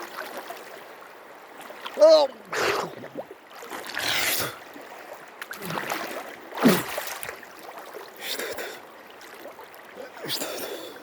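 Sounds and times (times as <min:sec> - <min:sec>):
river flowing: 0:00.0 - 0:11.0
water splashing: 0:00.0 - 0:11.0.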